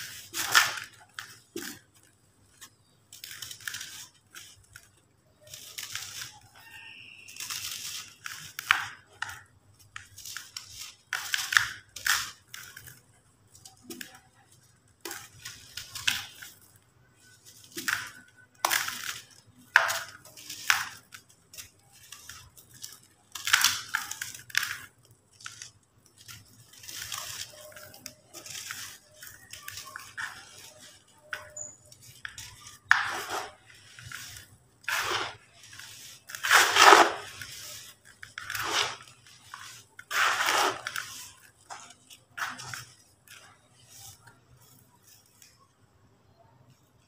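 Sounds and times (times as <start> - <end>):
cement lumps crunching: 0.0 - 44.8.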